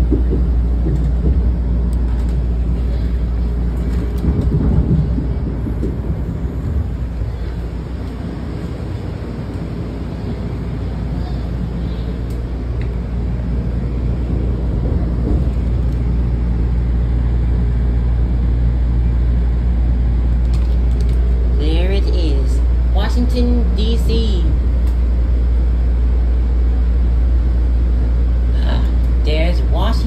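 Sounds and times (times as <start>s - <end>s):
train rumble from inside: 0.0s - 30.0s.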